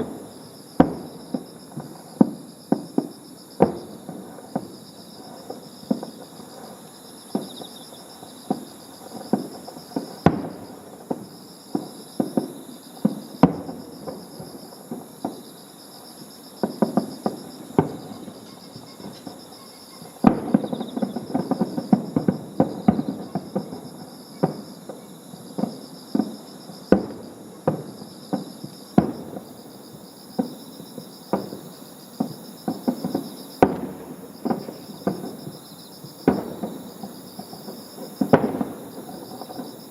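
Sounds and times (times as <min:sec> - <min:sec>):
fireworks bursting: 0:00.0 - 0:15.6, 0:16.6 - 0:39.9
insects chirping: 0:00.0 - 0:39.9.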